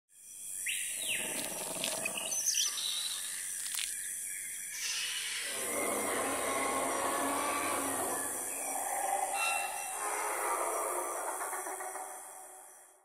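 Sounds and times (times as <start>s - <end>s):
high insect drone: 0.2s - 13.0s
birds chirping and calling: 0.6s - 4.0s, 4.8s - 12.8s.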